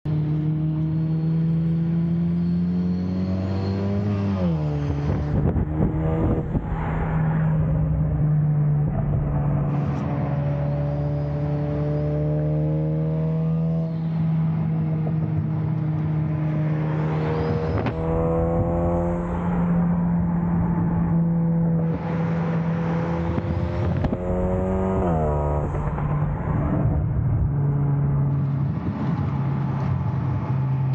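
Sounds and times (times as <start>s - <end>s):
car engine revving: 0.1s - 30.5s.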